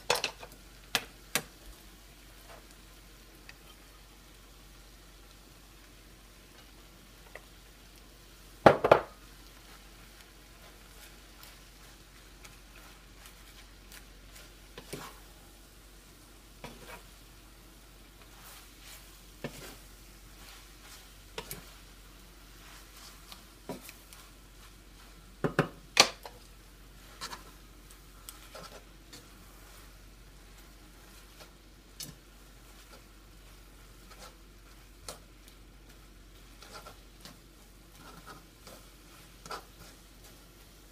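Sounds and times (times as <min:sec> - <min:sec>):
faint sizzle: 0:00.0 - 0:40.9
spatula stirring noodles in a pan: 0:00.0 - 0:40.9.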